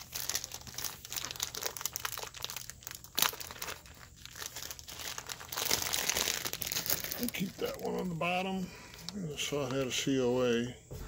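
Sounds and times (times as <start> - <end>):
plastic wrapping crinkling: 0.0 - 10.5.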